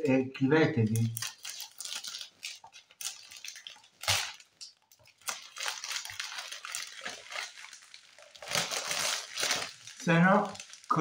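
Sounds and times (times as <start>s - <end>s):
foil wrapper crinkling and tearing: 0.9s - 11.0s.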